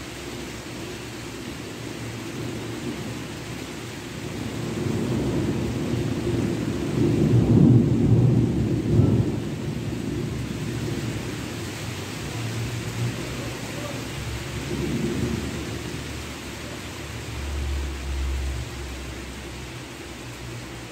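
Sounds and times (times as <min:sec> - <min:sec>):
rolling thunder: 0:01.6 - 0:19.2.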